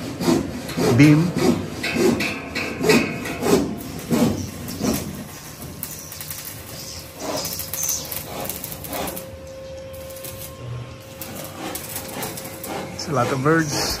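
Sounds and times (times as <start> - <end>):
hand tool rasping strokes: 0.0 - 14.0.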